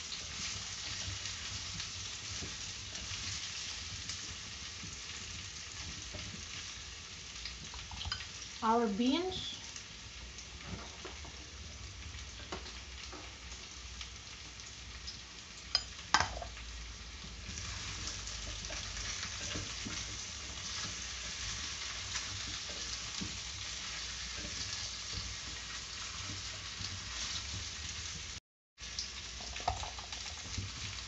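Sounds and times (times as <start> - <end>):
vegetables sizzling in a pot: 0.0 - 31.0.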